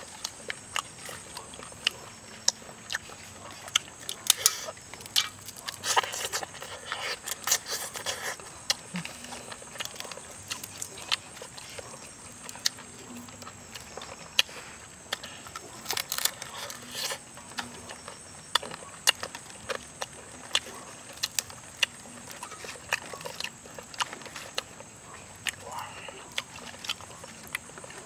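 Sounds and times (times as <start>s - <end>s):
crunching and chewing duck: 0.0s - 28.0s.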